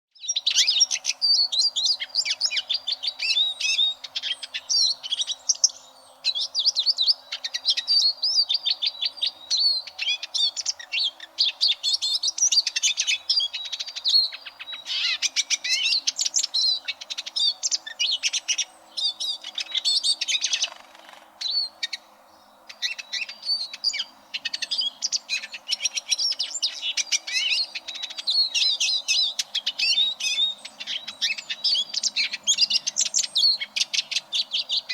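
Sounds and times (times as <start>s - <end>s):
bird twittering and trilling: 0.1s - 34.9s.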